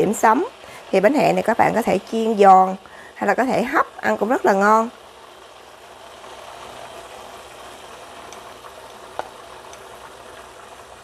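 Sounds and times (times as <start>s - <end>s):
water boiling in frying pan: 0.0s - 11.0s.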